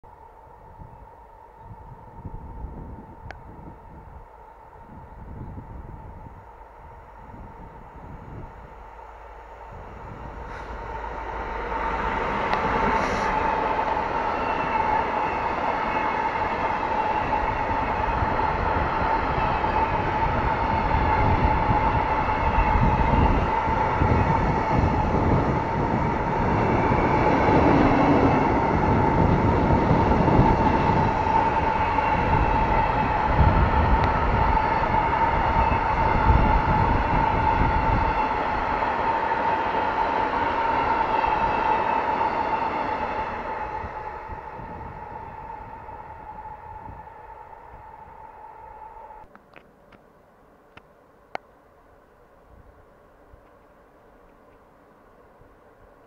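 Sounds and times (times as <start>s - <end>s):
freight train rumbling past: 0.1s - 49.3s.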